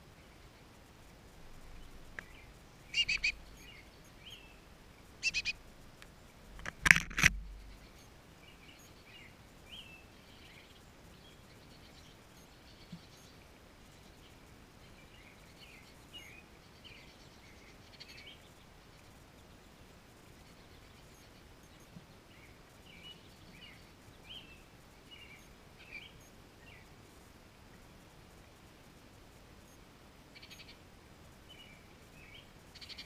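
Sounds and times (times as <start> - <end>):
steady outdoor hum: 0.0 - 33.0
faint bird chirps: 1.5 - 6.4, 7.4 - 26.9, 29.6 - 30.8, 31.5 - 33.0.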